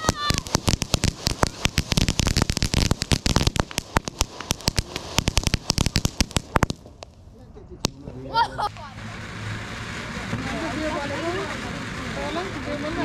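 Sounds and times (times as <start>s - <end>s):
fountain fireworks hissing: 0.0s - 7.2s, 7.8s - 13.0s
rapid crackling pops: 0.0s - 13.0s.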